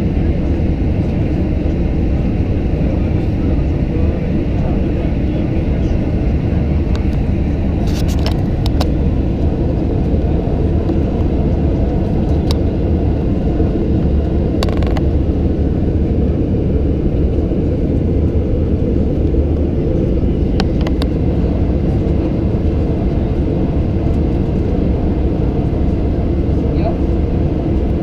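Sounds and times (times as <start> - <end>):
airplane cabin engine roar: 0.0 - 28.0.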